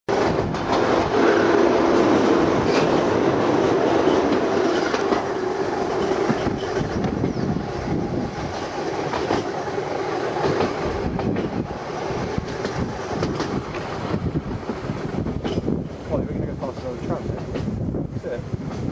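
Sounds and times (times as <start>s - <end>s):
steady tram hum: 0.1s - 18.9s
tram wheels clattering on rails: 0.1s - 18.9s.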